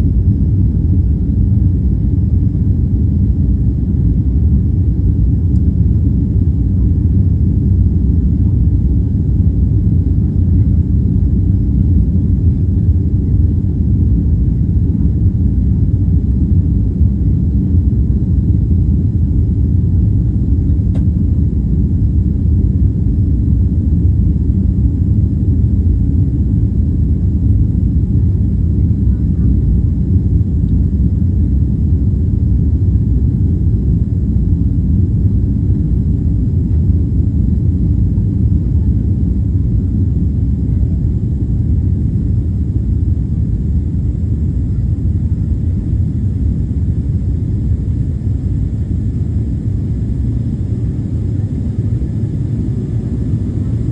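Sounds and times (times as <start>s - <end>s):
jet engine rumble in cabin: 0.0s - 53.9s.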